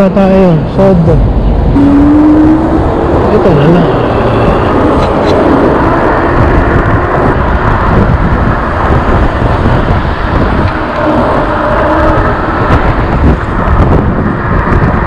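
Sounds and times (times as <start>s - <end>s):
car traffic: 0.0s - 15.0s
wind rush on microphone: 0.0s - 15.0s.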